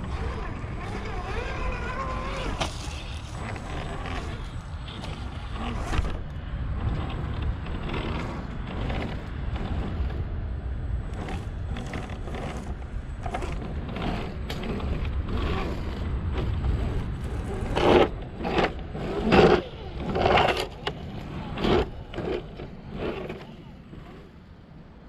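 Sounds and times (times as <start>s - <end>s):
tyres scraping over rock and leaves: 0.0s - 10.1s, 11.1s - 24.4s
electric motor and gears grinding: 0.0s - 24.8s.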